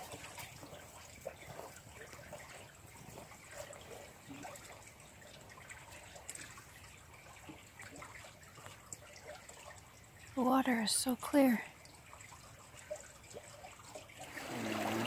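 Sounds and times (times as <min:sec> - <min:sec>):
creek trickling over pebbles: 0:00.0 - 0:15.0.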